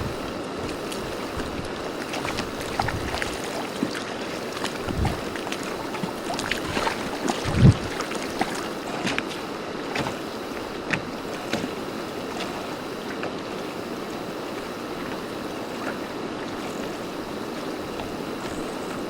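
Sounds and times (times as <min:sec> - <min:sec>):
water slapping against boat hull: 0:00.0 - 0:19.0
wind: 0:00.0 - 0:19.0.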